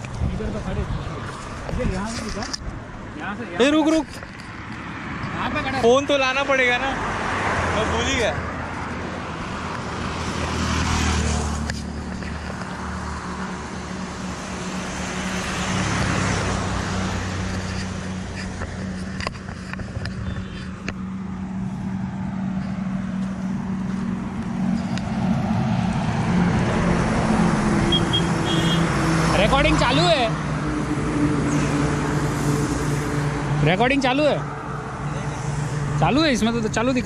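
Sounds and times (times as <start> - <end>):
traffic on a wet highway: 0.0 - 37.0.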